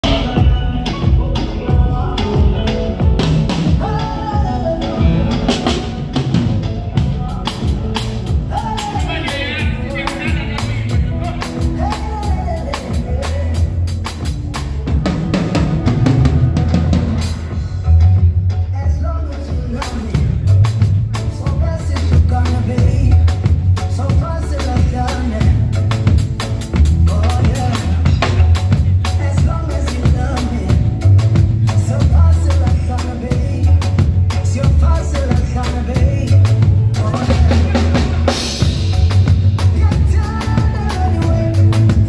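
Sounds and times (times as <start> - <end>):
deep heavy bass: 0.0 - 42.0
drum kit played hard: 0.0 - 42.0
person singing: 0.0 - 42.0.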